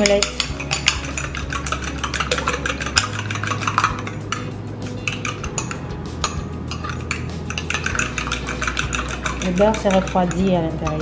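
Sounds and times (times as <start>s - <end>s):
utensil beating eggs in glass bowl: 0.0s - 11.0s.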